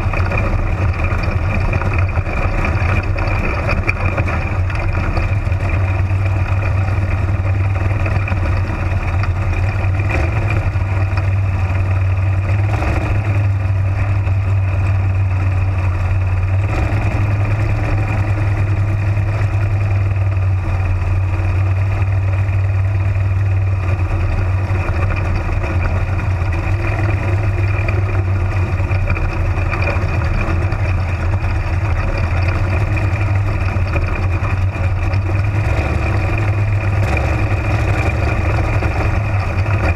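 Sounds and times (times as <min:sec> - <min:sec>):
race car engine at full speed: 0:00.0 - 0:39.9.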